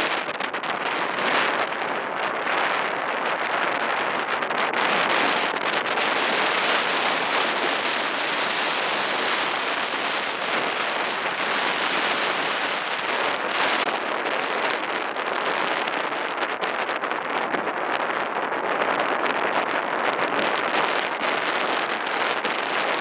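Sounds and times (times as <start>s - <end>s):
river rushing in flood: 0.0s - 23.0s.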